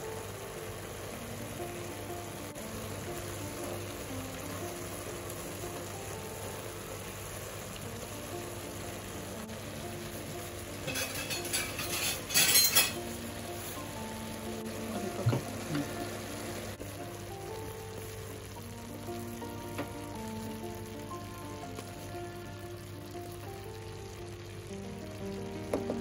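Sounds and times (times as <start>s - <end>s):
background music: 0.0s - 26.0s.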